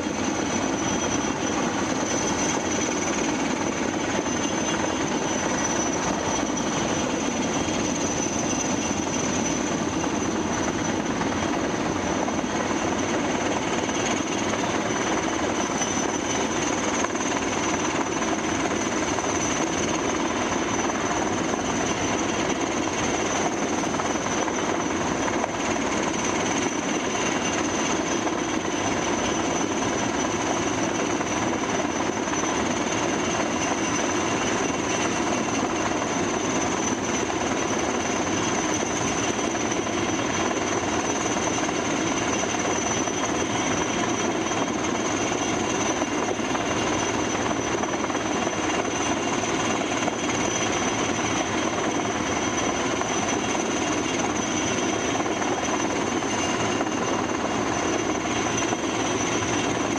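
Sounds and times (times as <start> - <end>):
helicopter rotor chopping: 0.0 - 59.9
steady high whine: 0.0 - 59.9.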